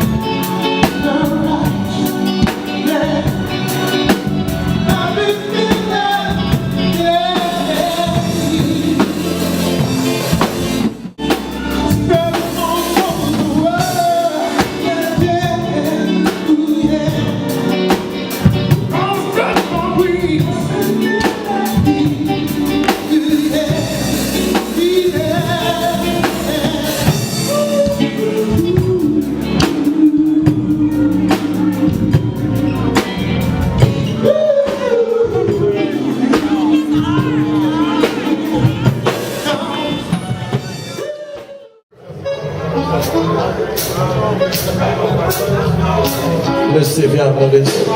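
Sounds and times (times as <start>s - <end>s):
lead vocal singing: 0.0s - 47.9s
live band playing: 0.0s - 47.9s.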